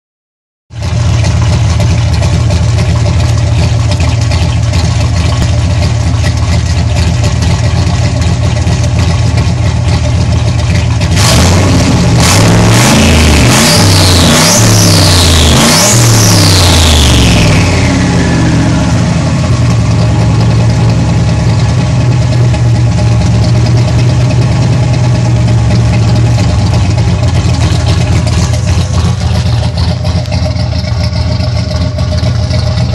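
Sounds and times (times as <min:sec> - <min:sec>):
car engine revving and idling: 0:00.7 - 0:32.9.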